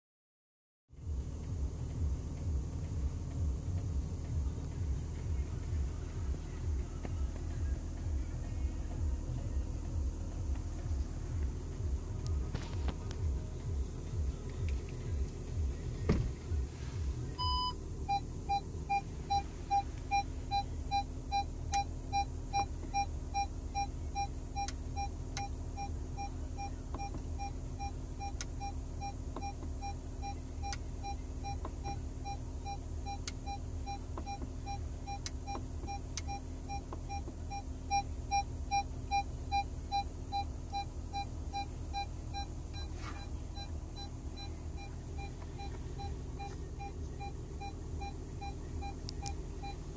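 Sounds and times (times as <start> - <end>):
low steady hum: 1.0 - 49.9
parking sensor beeps: 1.9 - 49.9
parking sensor switch-on tone: 1.9 - 49.9.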